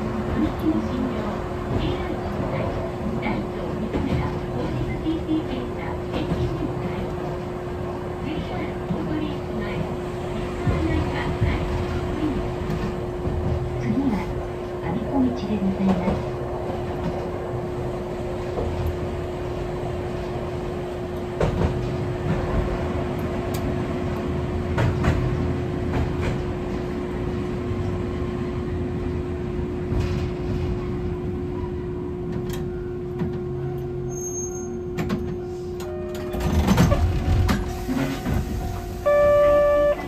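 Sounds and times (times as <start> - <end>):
tram electrical hum: 0.0 - 40.0.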